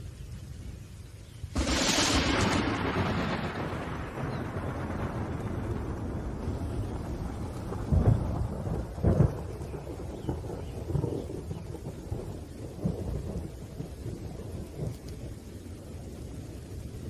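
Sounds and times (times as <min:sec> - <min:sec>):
steady rain: 0:00.0 - 0:17.0
thunder rumbling: 0:01.5 - 0:17.0.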